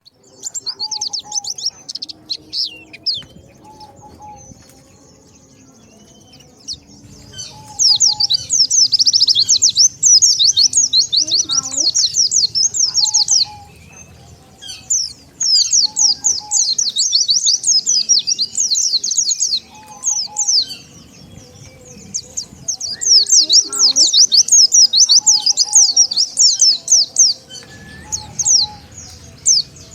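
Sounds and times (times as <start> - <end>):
birds twittering song: 0.0 - 29.9.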